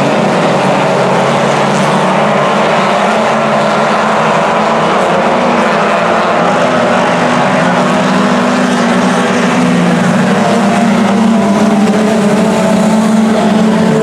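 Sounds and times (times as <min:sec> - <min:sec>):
race car engines at speed: 0:00.0 - 0:14.0.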